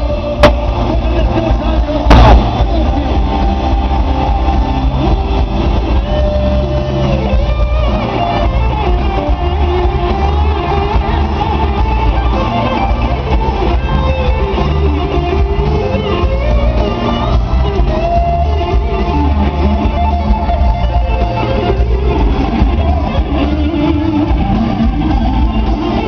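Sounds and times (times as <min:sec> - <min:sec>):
electric guitar: 0:00.0 - 0:26.0
live band music through a pa: 0:00.0 - 0:26.0.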